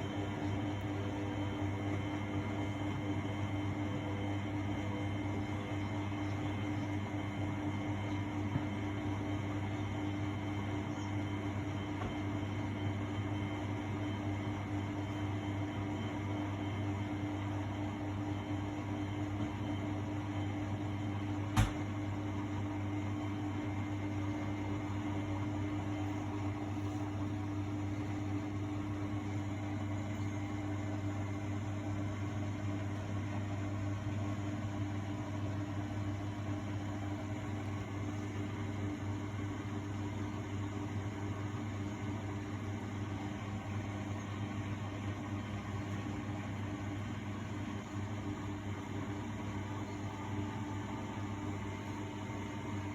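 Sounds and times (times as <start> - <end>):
washing machine motor hum: 0.0 - 52.9.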